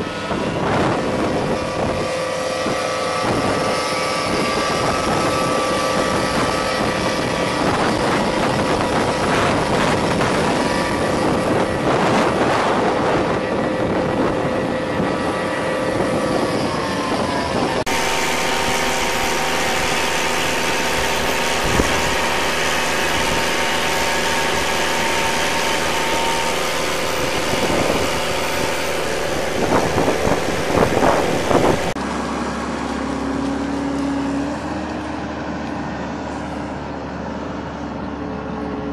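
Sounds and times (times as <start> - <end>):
excavator engine and hydraulics: 0.0 - 38.9
steady machine whine: 0.0 - 38.9
tracked tractor running: 0.0 - 38.9.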